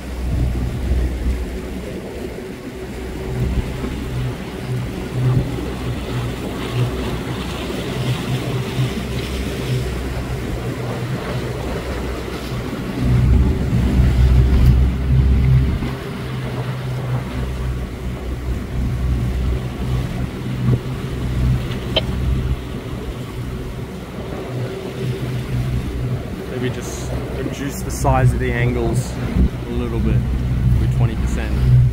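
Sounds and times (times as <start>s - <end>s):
outboard motor running: 0.0s - 31.9s
water noise: 0.0s - 31.9s
wind: 0.0s - 31.9s.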